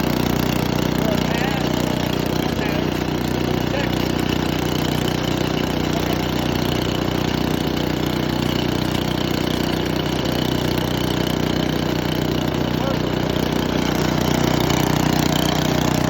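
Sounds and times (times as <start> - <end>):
wood chipper engine running: 0.0 - 16.0.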